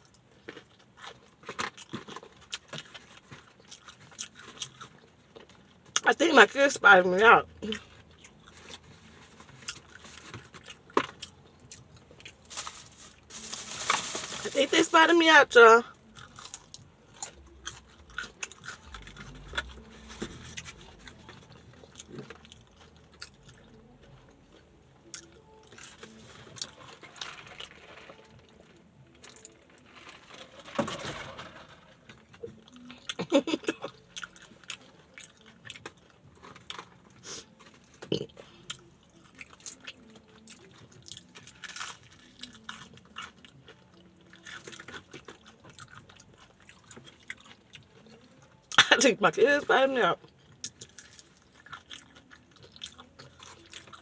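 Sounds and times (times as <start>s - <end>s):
chewing crispy fried chicken: 0.0s - 15.1s, 15.8s - 30.8s, 31.4s - 54.0s.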